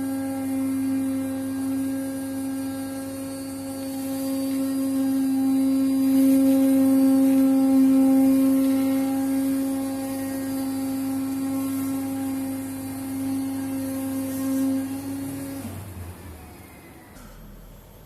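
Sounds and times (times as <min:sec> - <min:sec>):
cutting machine buzzing hum: 0:00.0 - 0:18.0.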